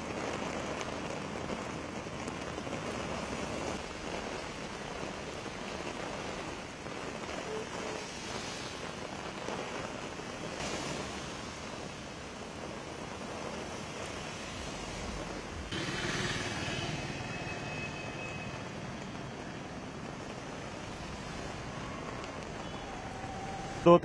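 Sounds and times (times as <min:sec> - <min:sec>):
heavy rain on wet road: 0:00.0 - 0:24.0
passing traffic tyre noise: 0:00.0 - 0:24.0.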